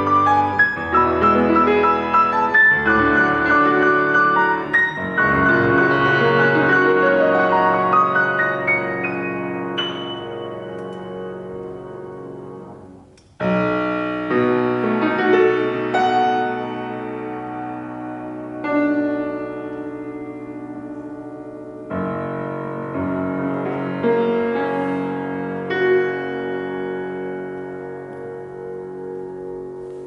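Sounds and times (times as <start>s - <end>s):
classical solo piano: 0.0s - 30.0s.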